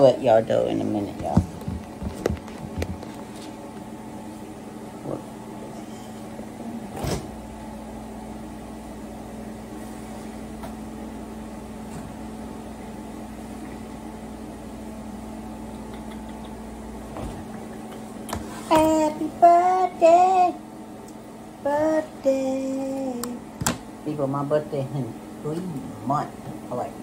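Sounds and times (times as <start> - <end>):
microwave oven humming: 0.0 - 27.0.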